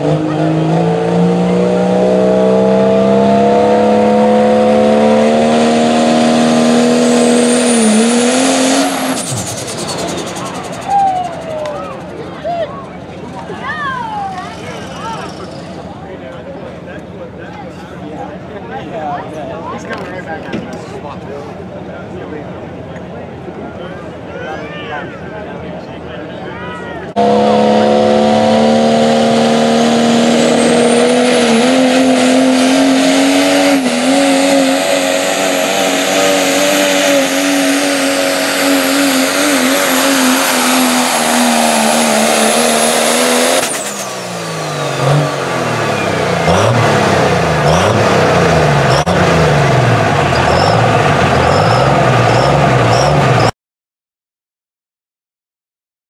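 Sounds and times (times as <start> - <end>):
diesel truck engine at full throttle: 0.0 - 53.5.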